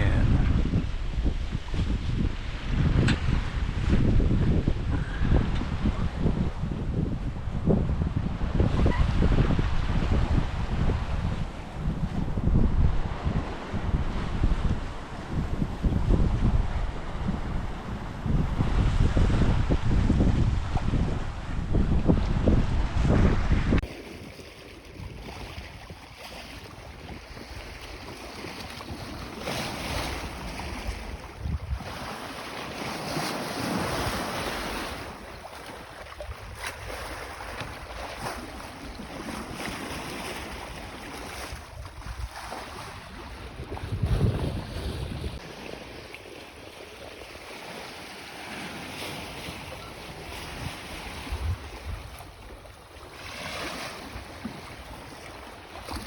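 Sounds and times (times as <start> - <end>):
water rushing along hull: 0.0 - 56.0
wind blowing across microphone: 0.0 - 56.0.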